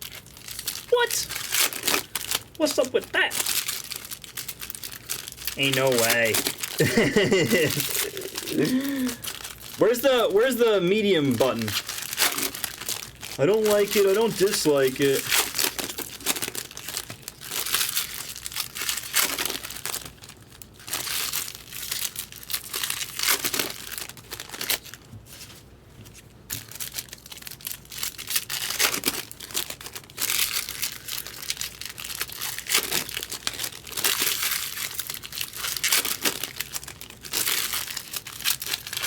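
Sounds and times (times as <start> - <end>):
card pack wrappers crinkling: 0.0 - 39.0.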